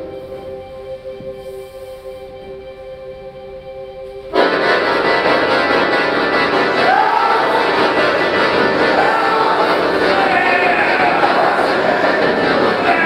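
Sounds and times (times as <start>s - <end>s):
accordion playing chords: 0.0s - 13.0s.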